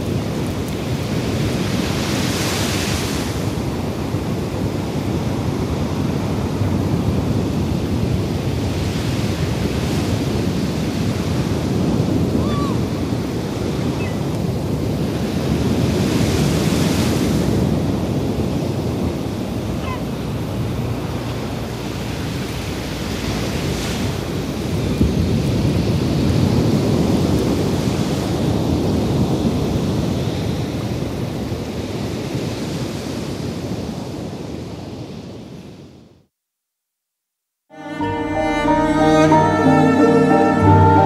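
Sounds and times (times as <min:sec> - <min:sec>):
ocean surf washing onto beach: 0:00.0 - 0:35.5.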